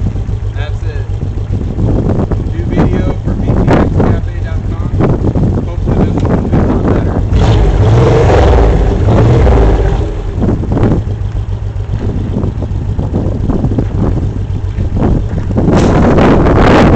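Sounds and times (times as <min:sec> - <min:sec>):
motorcycle engine running: 0:00.0 - 0:16.9
wind buffeting microphone: 0:00.0 - 0:16.9.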